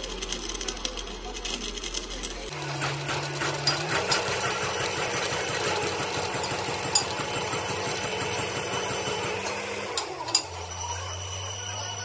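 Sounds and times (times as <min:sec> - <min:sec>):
welding arc crackling: 0:00.0 - 0:11.1.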